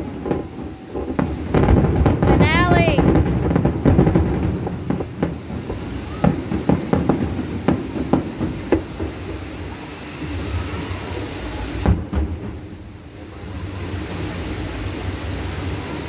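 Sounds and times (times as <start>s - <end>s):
distant fireworks bangs and crackles: 0.0s - 16.0s.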